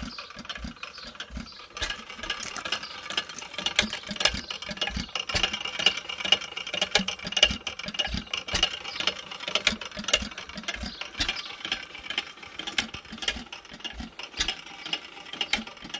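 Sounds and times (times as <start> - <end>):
gas engine clattering: 0.0 - 15.9.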